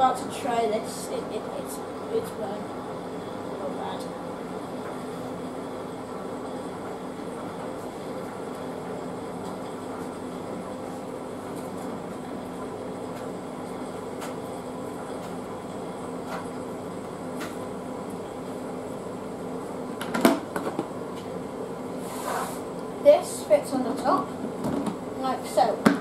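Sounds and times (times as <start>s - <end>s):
kitchen appliance hum: 0.0s - 26.0s.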